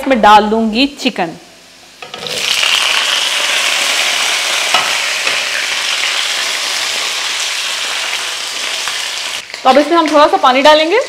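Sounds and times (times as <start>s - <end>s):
food sizzling in hot oil: 1.6s - 11.0s.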